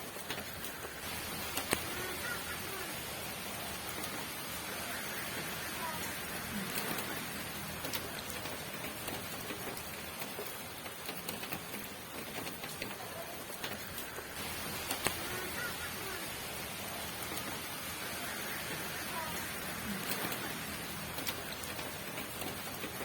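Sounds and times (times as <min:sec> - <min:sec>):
rain falling on a surface: 0:00.0 - 0:23.0.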